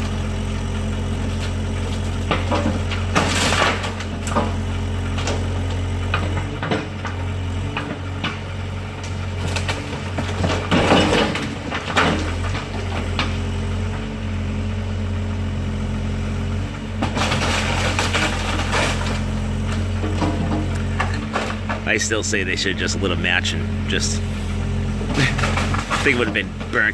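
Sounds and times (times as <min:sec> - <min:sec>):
diesel engine humming: 0:00.0 - 0:26.9
wood cracking and crunching: 0:00.0 - 0:26.9.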